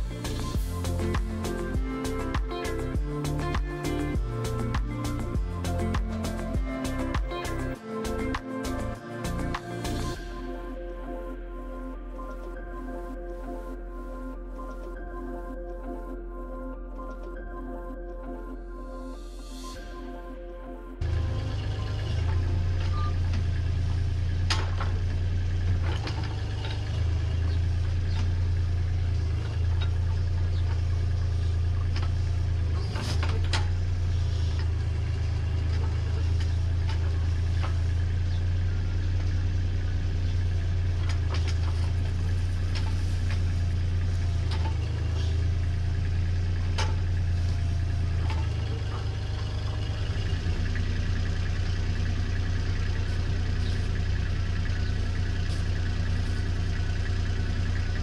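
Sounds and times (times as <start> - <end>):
excavator diesel engine running: 0.0 - 15.9, 21.0 - 58.0.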